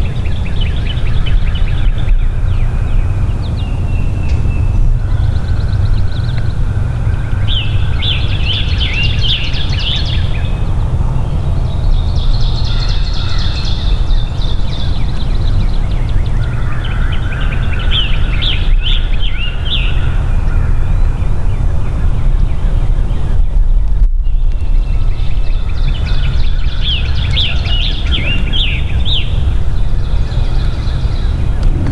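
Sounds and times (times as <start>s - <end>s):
loud steady low rumble: 0.0s - 31.9s
songbird chirping: 0.0s - 31.9s.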